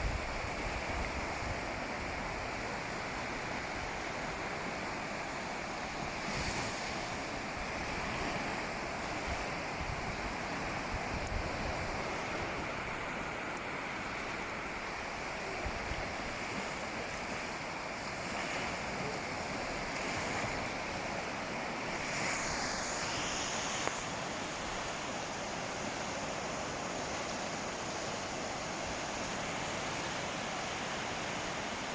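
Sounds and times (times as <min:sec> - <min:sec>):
ocean surf washing onto beach: 0:00.0 - 0:31.9.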